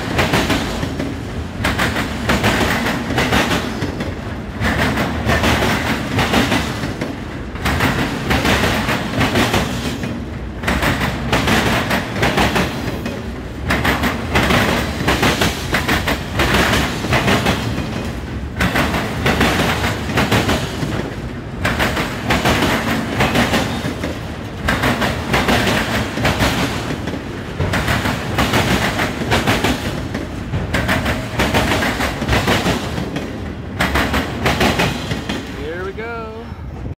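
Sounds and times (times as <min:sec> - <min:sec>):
freight train wheels clattering: 0:00.0 - 0:35.6.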